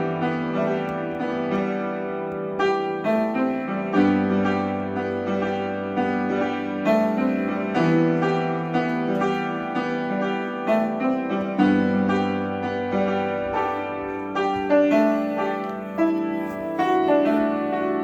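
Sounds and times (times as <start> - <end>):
calm piano music: 0.0 - 18.0.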